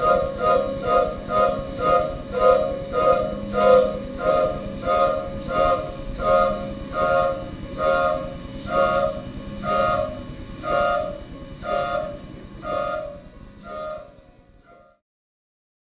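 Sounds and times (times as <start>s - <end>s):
mechanical sound machine reedy chord blasts: 0.0s - 14.8s.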